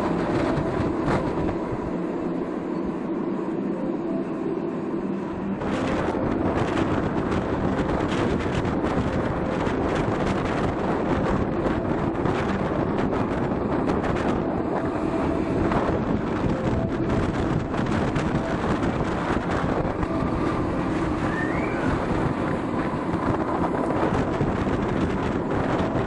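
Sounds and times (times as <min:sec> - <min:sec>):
train wheels on rails: 0:00.0 - 0:26.0
wind buffeting microphone: 0:00.0 - 0:26.0.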